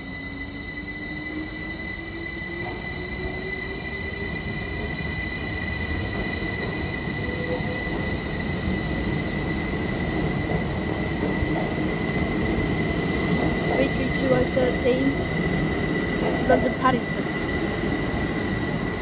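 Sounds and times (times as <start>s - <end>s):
electric train motor whine: 0.0s - 19.0s
steady high-pitched tone: 0.0s - 19.0s
rail rumble: 1.8s - 19.0s.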